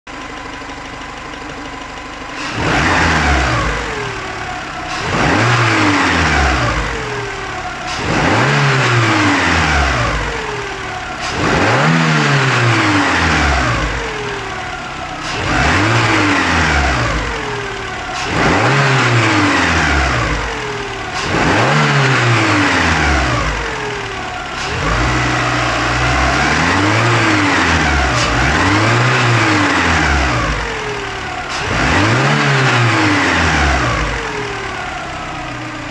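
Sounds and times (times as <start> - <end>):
car engine revving: 2.4 - 35.9.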